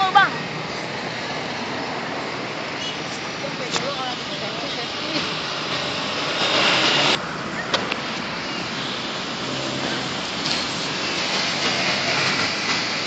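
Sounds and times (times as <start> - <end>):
road traffic hiss: 0.0 - 13.0.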